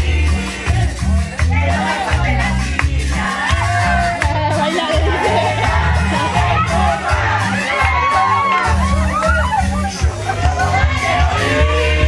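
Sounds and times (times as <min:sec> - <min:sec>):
dance music with pulsing bass: 0:00.0 - 0:12.0
person singing: 0:00.0 - 0:12.0.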